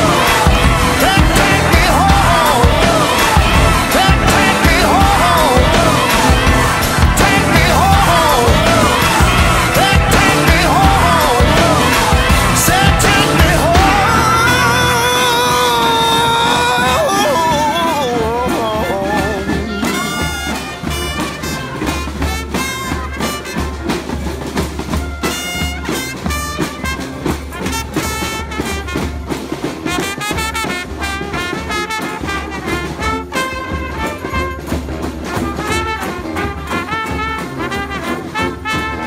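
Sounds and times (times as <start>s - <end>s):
bass drum steady beat: 0.0s - 33.6s
jazz marching band playing: 0.0s - 39.0s.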